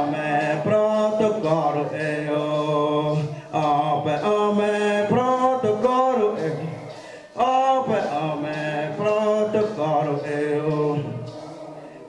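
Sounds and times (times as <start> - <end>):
men chanting long held notes: 0.0 - 12.0.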